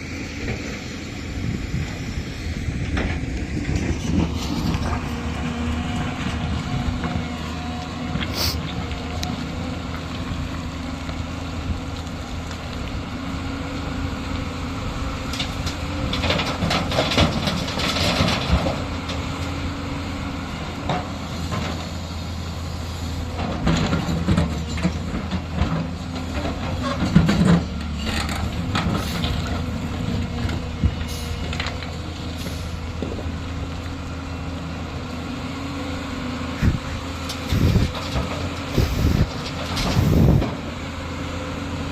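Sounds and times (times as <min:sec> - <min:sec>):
diesel excavator engine running: 0:00.0 - 0:41.9.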